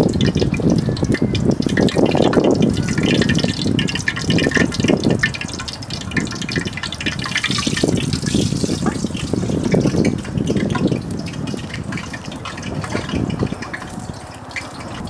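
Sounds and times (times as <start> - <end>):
water splashing and gushing: 0.0 - 15.0.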